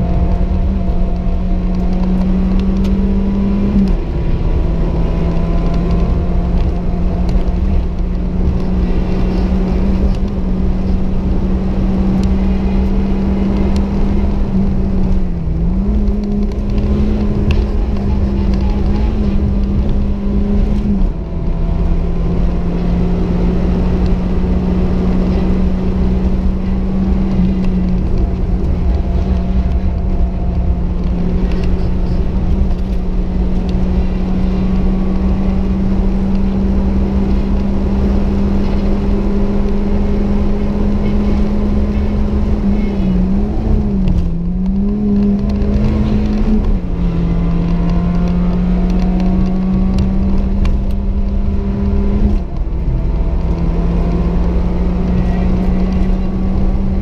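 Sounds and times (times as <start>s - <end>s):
car engine running at high revs: 0.0s - 57.0s.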